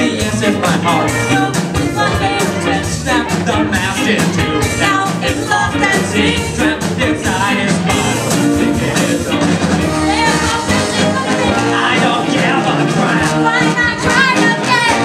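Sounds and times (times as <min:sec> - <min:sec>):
bass guitar: 0:00.0 - 0:15.0
electric guitars: 0:00.0 - 0:15.0
saxophone: 0:00.0 - 0:15.0
steady drum beat: 0:00.0 - 0:15.0
trombone: 0:00.0 - 0:15.0.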